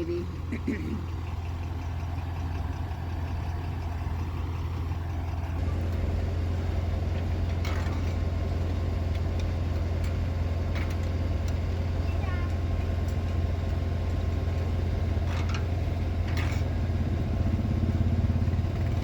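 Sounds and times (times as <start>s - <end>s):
faint machinery clicks: 0.0s - 17.4s
tractor engine idling: 0.0s - 19.0s.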